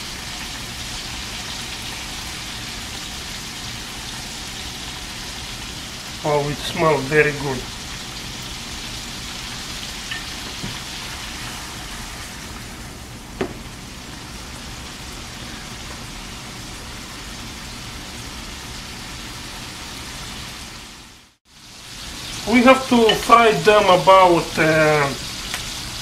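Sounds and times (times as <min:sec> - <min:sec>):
shrimp sizzling in oil: 0:00.0 - 0:26.0.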